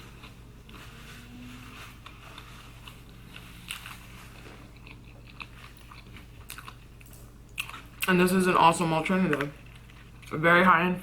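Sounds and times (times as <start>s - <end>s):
person chewing food: 0.0s - 8.2s, 9.3s - 10.4s.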